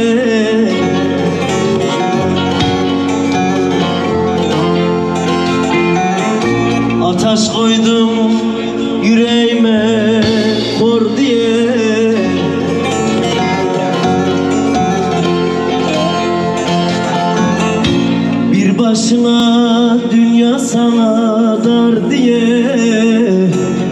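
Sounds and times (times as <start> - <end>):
bass line: 0.0 - 23.9
plucked string melody: 0.0 - 23.9.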